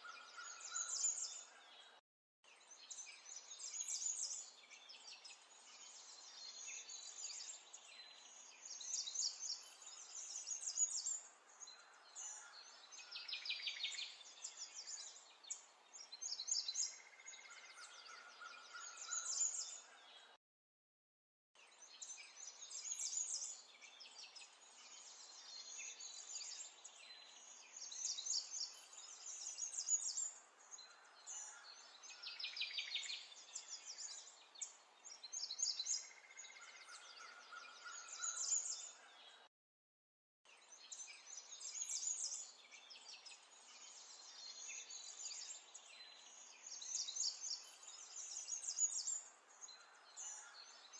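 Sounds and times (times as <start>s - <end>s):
songbirds chirping and trilling: 0.0s - 20.4s, 21.6s - 39.5s, 40.5s - 50.9s
soft outdoor hiss: 2.5s - 20.3s, 21.6s - 36.8s, 40.6s - 50.9s.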